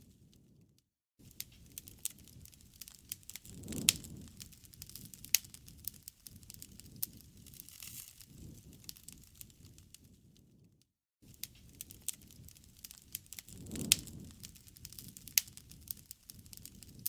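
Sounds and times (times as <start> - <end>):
low rumble of burning: 0.0 - 17.0
wood fire crackling: 1.2 - 10.6, 11.2 - 17.0
loud fire pops: 1.3 - 10.1, 11.3 - 17.0.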